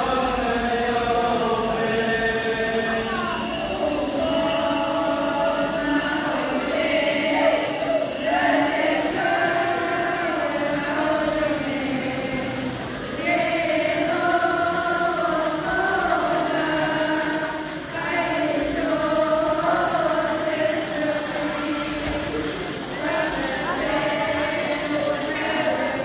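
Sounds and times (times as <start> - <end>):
group chanting a hymn: 0.0 - 26.0.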